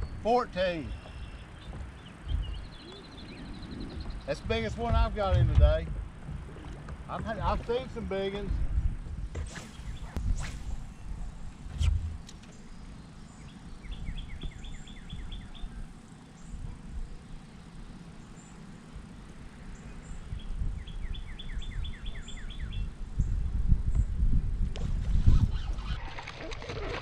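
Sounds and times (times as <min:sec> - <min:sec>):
low rumbling noise: 0:00.0 - 0:22.0
songbird singing: 0:00.0 - 0:24.3.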